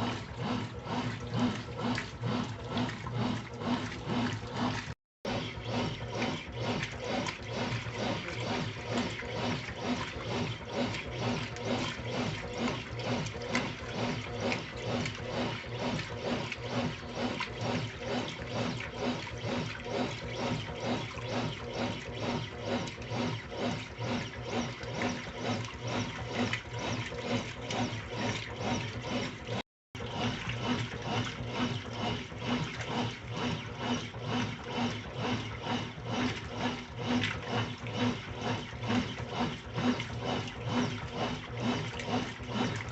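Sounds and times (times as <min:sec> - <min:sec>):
washing machine motor humming: 0:00.0 - 0:42.9
water sloshing: 0:00.0 - 0:42.9.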